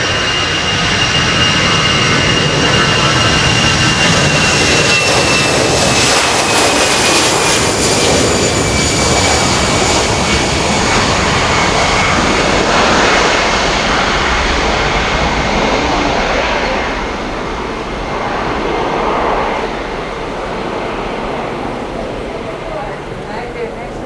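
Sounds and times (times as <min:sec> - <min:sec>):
jet engines at takeoff thrust: 0:00.0 - 0:24.0.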